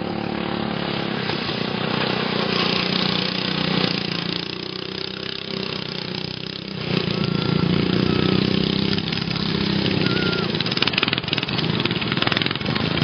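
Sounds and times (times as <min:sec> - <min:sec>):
lawn mower engines running: 0:00.0 - 0:13.0.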